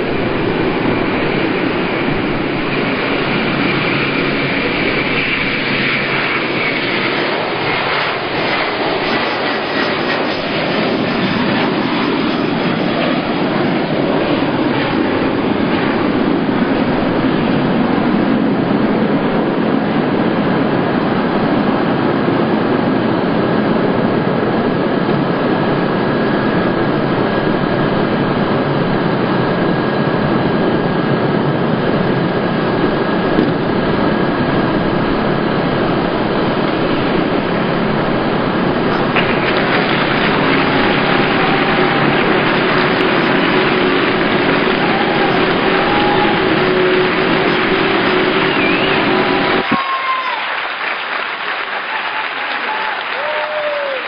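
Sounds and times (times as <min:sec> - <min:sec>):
jet engines at takeoff: 0:00.0 - 0:54.0.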